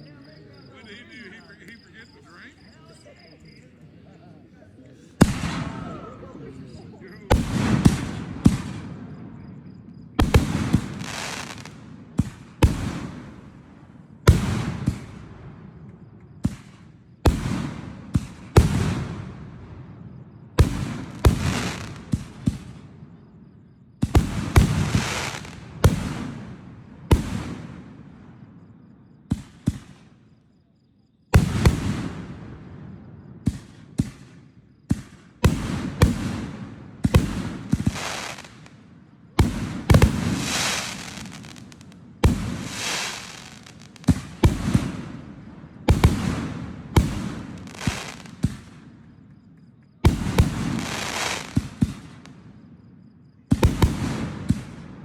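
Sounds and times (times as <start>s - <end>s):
fireworks bursting: 0.0s - 3.8s, 5.0s - 23.3s, 24.0s - 30.4s, 31.4s - 49.1s, 50.0s - 52.6s, 53.5s - 55.0s.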